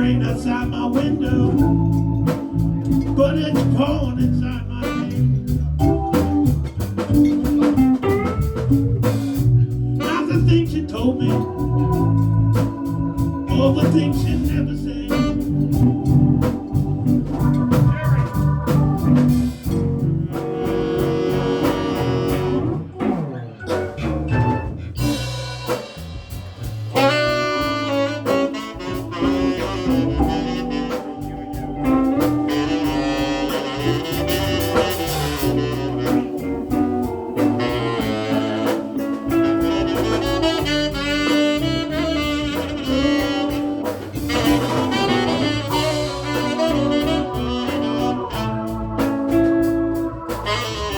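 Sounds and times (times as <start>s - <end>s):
saxophone solo: 0.0s - 24.1s, 24.8s - 50.9s
drum kit and backing band: 0.0s - 50.9s.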